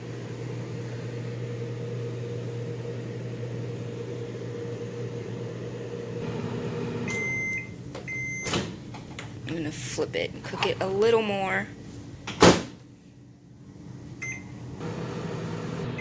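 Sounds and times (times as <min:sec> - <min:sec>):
microwave oven humming: 0:00.0 - 0:09.7, 0:11.8 - 0:16.0.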